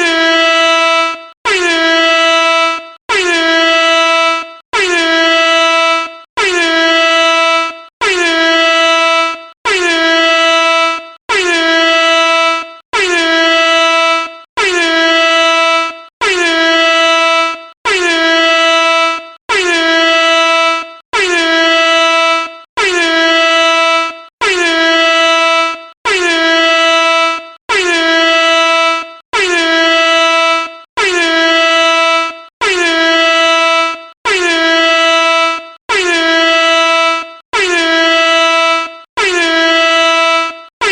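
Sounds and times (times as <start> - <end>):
air horn blasts: 0.0 - 40.9.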